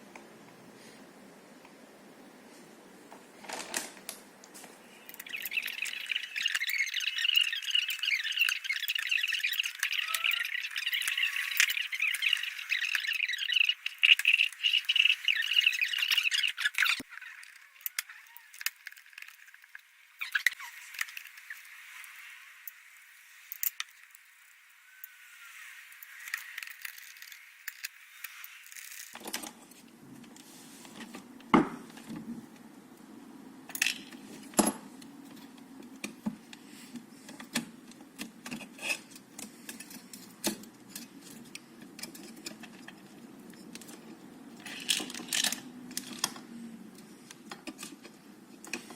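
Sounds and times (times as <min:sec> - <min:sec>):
small parts and tools clinking: 0:05.0 - 0:25.2, 0:25.9 - 0:29.8, 0:33.7 - 0:48.9.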